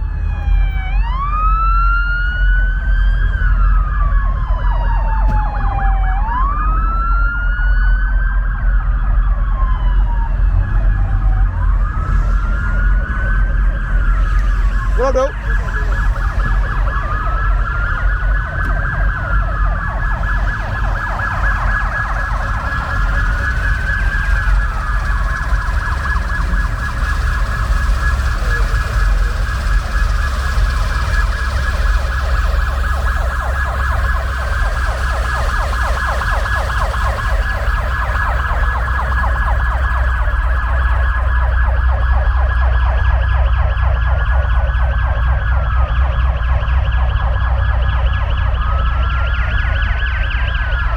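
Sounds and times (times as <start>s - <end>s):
emergency siren wailing: 0.0s - 50.9s
low rumble: 0.0s - 50.9s.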